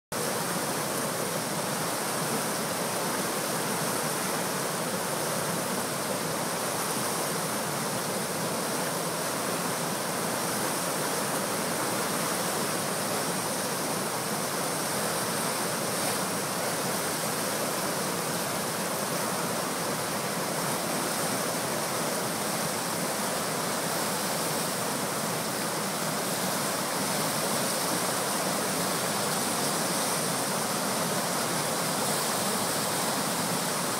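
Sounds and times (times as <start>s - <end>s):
water rushing over rocks: 0.2s - 33.9s.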